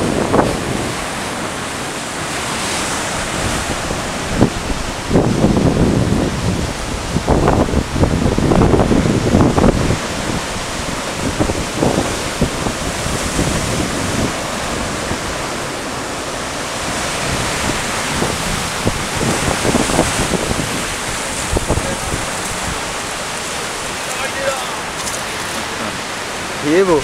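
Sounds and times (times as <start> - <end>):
surf breaking against rocks: 0.0 - 27.0
wind buffeting microphone: 0.0 - 27.0.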